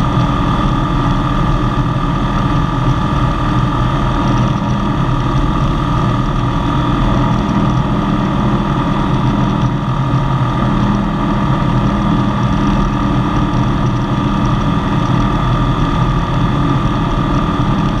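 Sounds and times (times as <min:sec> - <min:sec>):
light aircraft engine and propeller: 0:00.0 - 0:18.0.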